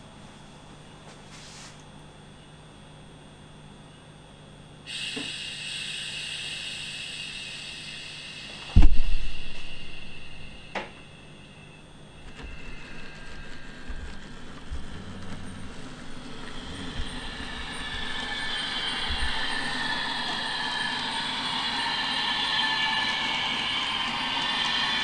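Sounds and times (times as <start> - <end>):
electric traction motor whine: 4.9 - 25.0.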